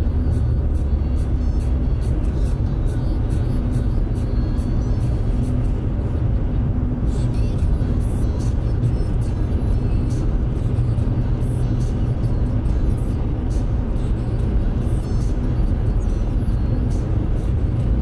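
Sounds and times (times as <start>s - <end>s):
car cabin engine rumble: 0.0s - 18.0s.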